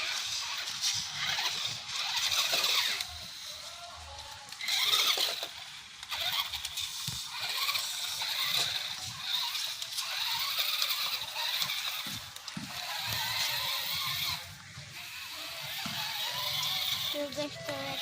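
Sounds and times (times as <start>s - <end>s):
toy truck electric motor whining: 0.0s - 18.0s.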